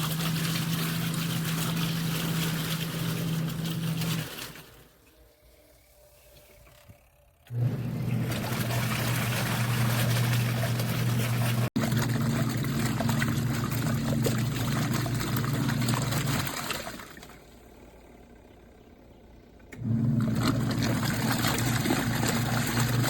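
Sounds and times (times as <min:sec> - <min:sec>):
water churning: 0:00.0 - 0:05.2, 0:07.5 - 0:18.2, 0:19.8 - 0:23.0
washing machine motor hum: 0:00.0 - 0:23.0.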